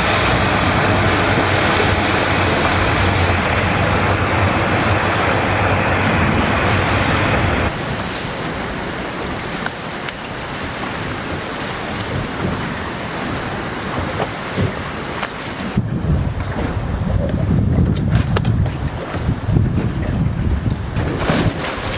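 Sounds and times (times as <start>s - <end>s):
water rushing: 0.0s - 21.9s
wind rushing: 0.0s - 21.9s.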